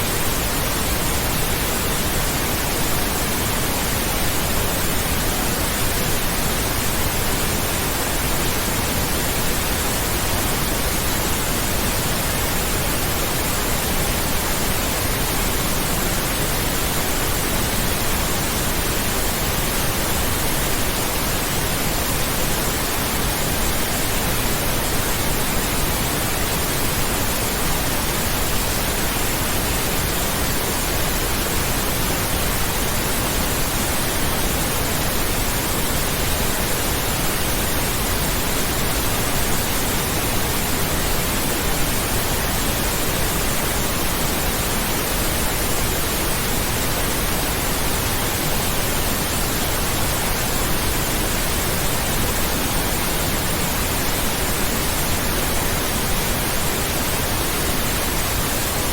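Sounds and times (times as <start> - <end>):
pink noise hiss: 0.0 - 58.9.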